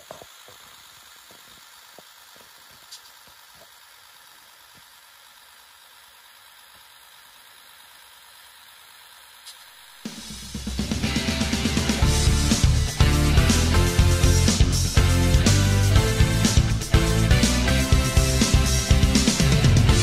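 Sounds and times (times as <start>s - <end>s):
model diesel engine sound: 0.0s - 20.0s.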